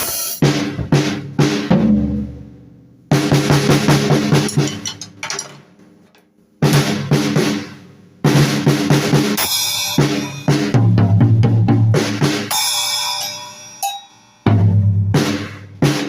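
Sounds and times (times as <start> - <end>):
drum kit playing rapid hits: 0.0 - 5.5, 6.6 - 16.0.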